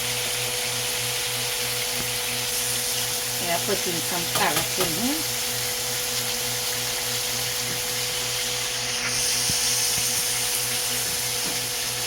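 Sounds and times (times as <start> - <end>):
soup cooking on stove: 0.0 - 12.0.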